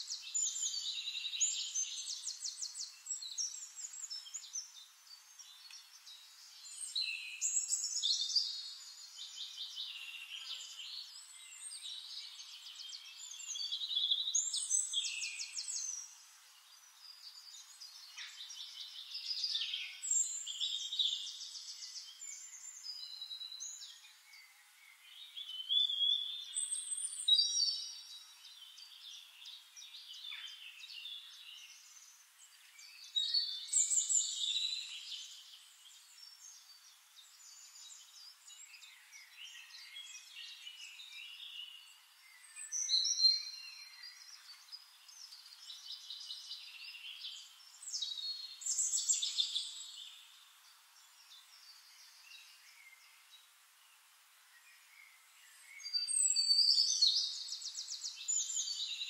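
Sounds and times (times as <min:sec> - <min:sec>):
forest birds singing: 0:00.0 - 0:59.0.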